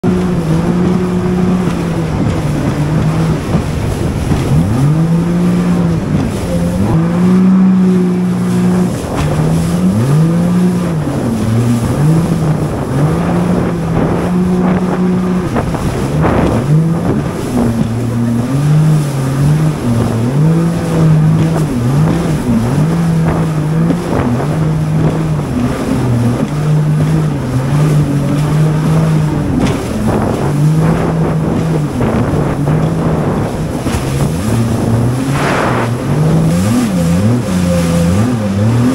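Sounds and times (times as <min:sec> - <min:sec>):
jet ski engine revving: 0:00.0 - 0:38.9
wind noise on microphone: 0:00.0 - 0:38.9.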